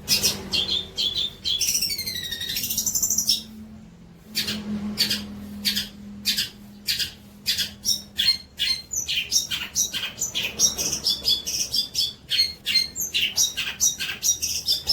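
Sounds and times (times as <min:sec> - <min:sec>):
songbird chattering song: 0:00.0 - 0:03.6, 0:04.3 - 0:14.9.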